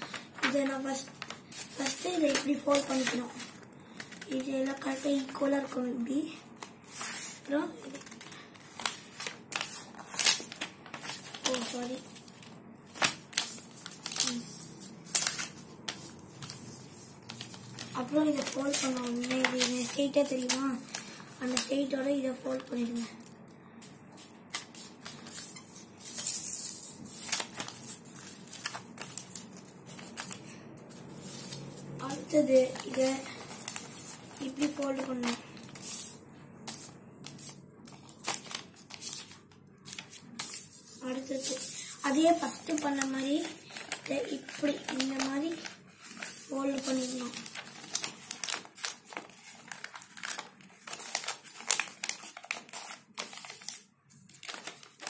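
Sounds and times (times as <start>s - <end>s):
paper rustling and crinkling: 0.0s - 55.0s.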